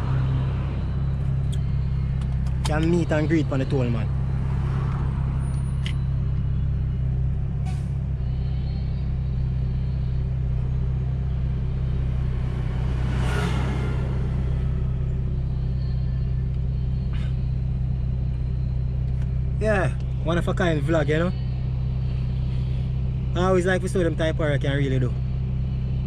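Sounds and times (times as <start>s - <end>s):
car engine drone: 0.0s - 26.0s
road noise: 0.0s - 26.0s.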